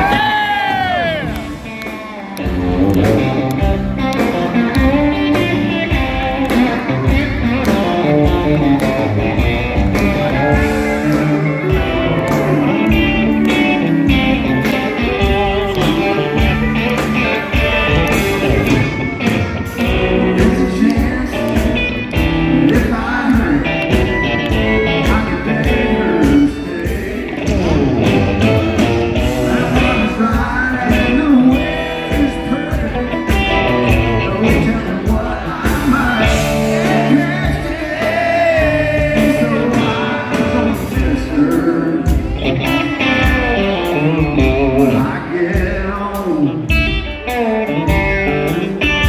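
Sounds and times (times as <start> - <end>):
electric guitar: 0.0 - 49.0
live country band: 0.0 - 49.0.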